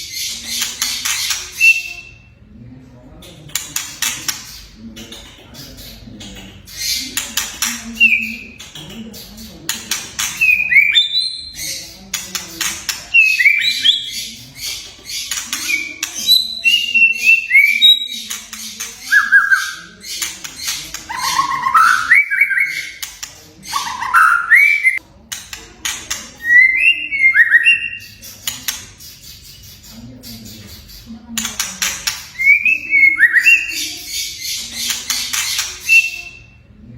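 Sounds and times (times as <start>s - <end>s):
bird clicking and crackling notes: 0.1s - 2.2s, 3.2s - 36.4s.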